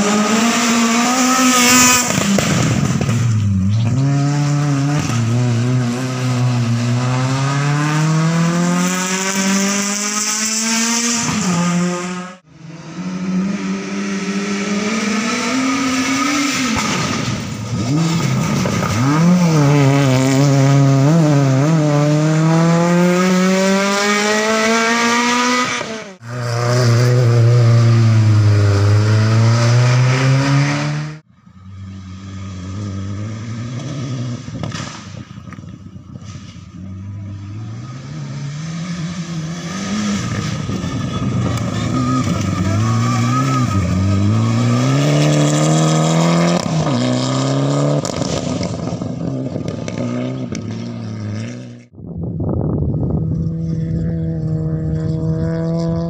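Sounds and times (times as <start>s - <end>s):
rally car engines revving: 0.0s - 52.0s, 52.9s - 56.0s.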